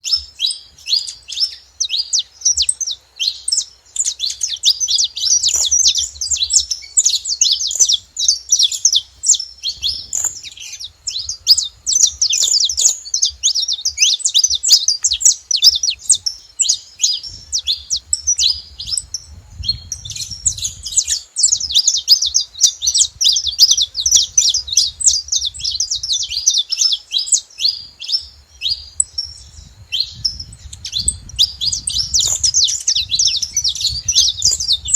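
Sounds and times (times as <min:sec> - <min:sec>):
finches chirping: 0:00.0 - 0:34.9.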